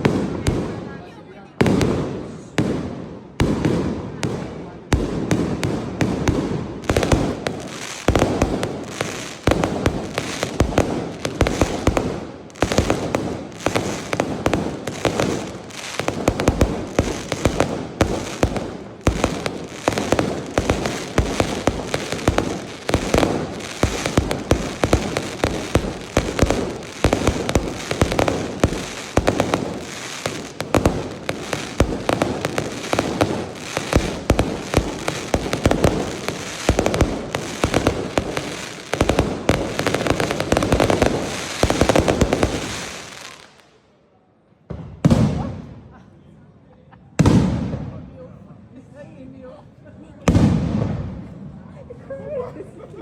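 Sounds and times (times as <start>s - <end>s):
firecrackers crackling: 0.0s - 43.8s, 47.2s - 47.8s, 50.3s - 51.5s
fireworks bangs: 0.0s - 43.8s, 44.6s - 45.9s, 47.2s - 48.1s, 50.3s - 51.6s.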